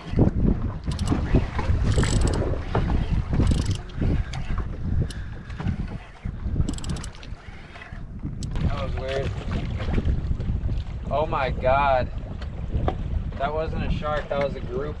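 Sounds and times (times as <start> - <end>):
water moving along hull: 0.0 - 15.0
wind buffeting microphone: 0.0 - 15.0.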